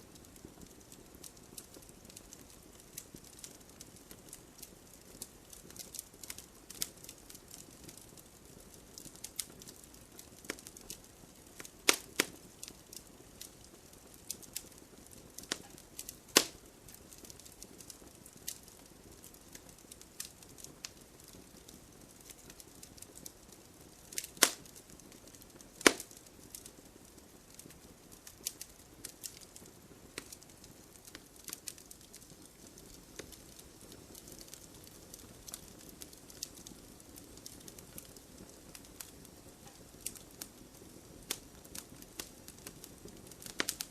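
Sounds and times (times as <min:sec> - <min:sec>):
campfire crackling: 0:00.0 - 0:43.9
burning wood popping: 0:00.1 - 0:43.9.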